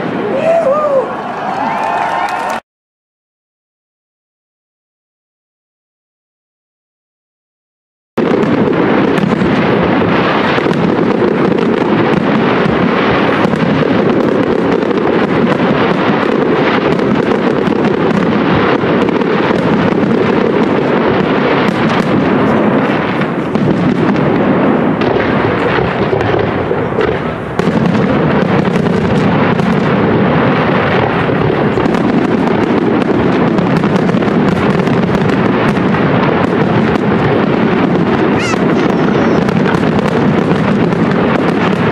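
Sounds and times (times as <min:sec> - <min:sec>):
fireworks bursting and crackling: 0:00.0 - 0:02.6, 0:08.2 - 0:41.9.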